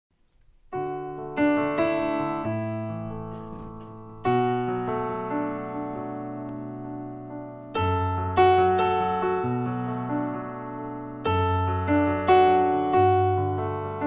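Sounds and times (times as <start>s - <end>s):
piano chords: 0.2s - 14.0s.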